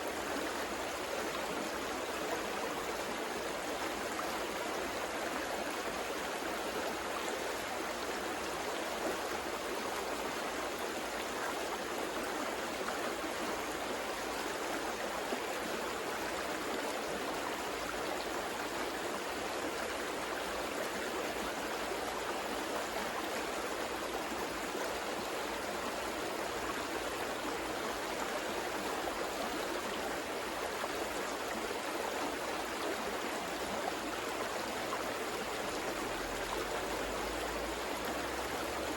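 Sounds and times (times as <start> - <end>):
river water over rocks: 0.0 - 38.9.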